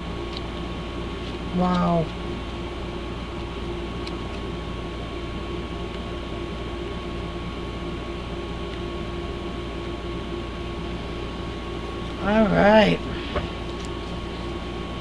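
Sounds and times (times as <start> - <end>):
mechanical hum with whine: 0.0 - 15.0.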